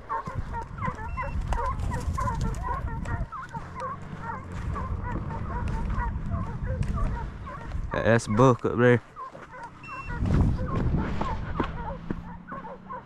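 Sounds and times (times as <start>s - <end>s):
hounds baying and yelping: 0.0s - 13.0s.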